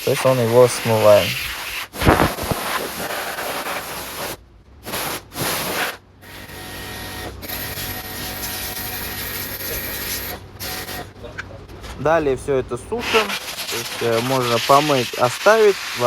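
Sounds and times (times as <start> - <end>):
car wash spray hissing: 0.0 - 6.0, 6.9 - 11.1, 13.0 - 16.0
faint machine hum: 0.0 - 16.0.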